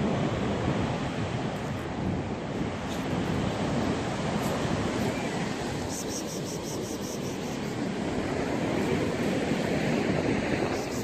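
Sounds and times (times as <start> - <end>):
surf washing on shore: 0.0 - 11.0
wind rumbling on microphone: 0.0 - 11.0.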